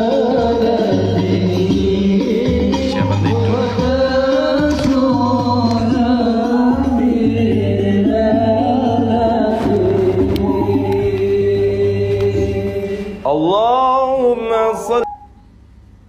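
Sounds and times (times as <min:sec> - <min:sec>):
music with low beat: 0:00.0 - 0:12.9
person singing devotional song: 0:00.0 - 0:13.3.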